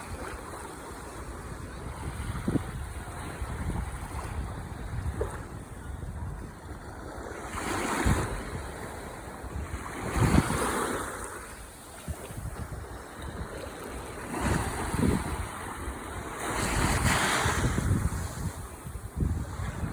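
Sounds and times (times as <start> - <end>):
ocean waves breaking: 0.0 - 19.9
wind buffeting microphone: 0.0 - 19.9.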